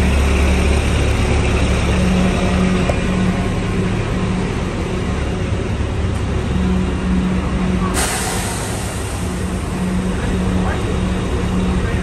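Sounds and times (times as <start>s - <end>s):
bus diesel engine rumbling: 0.0s - 12.0s
street traffic: 0.0s - 12.0s.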